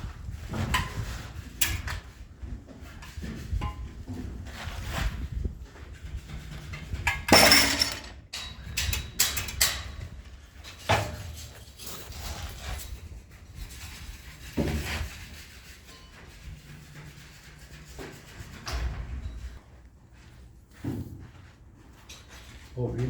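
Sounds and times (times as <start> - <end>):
knocks and scraping clatters: 0.0 - 23.0.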